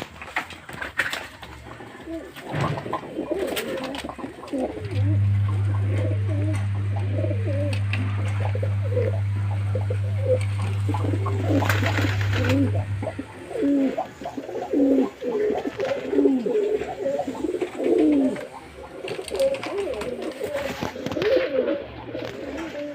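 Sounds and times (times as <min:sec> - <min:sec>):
low steady hum: 0:00.0 - 0:22.9
pigeons cooing: 0:01.7 - 0:22.9.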